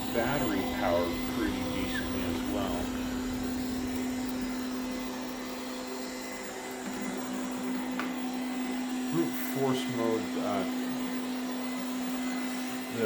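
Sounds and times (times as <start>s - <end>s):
robot vacuum cleaner running: 0.0s - 13.0s.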